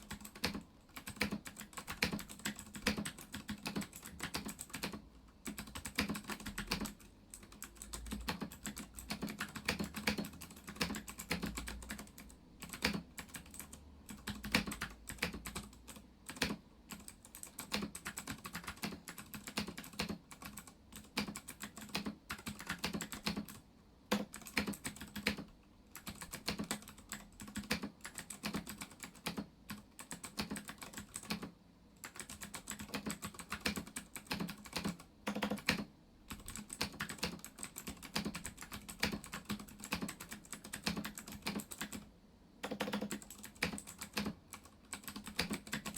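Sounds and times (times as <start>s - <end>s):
mechanical keyboard clicks: 0.0s - 45.9s.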